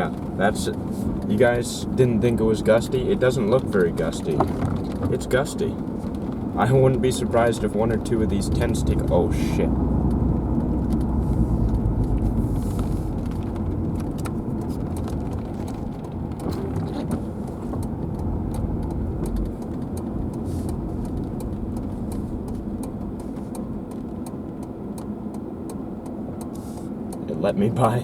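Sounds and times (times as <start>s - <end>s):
heavy rumble: 0.0s - 25.3s
light ticks: 2.2s - 27.3s.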